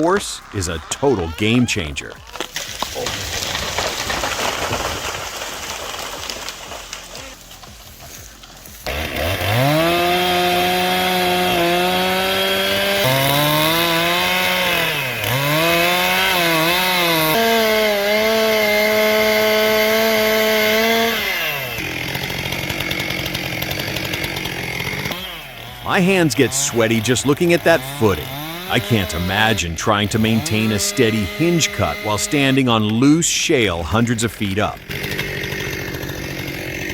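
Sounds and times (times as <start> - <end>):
chainsaw revving: 0.0 - 36.9.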